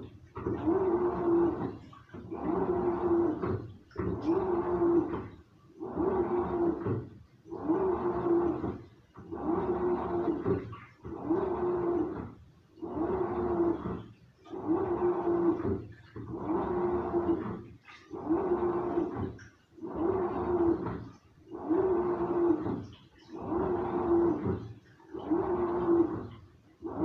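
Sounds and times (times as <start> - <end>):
washing machine motor humming: 0.0 - 27.0
water sloshing: 0.0 - 27.0.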